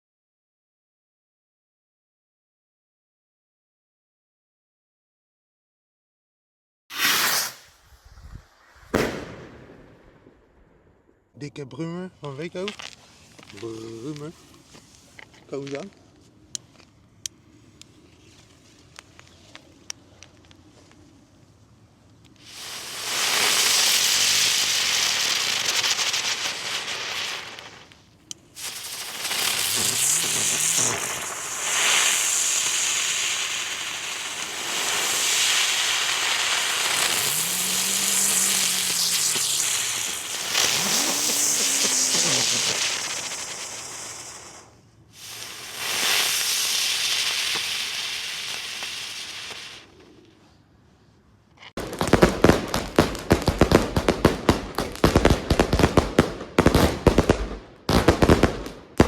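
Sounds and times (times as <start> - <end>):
ground spinner fireworks hissing: 6.9 - 11.0, 11.8 - 51.2, 51.8 - 59.0.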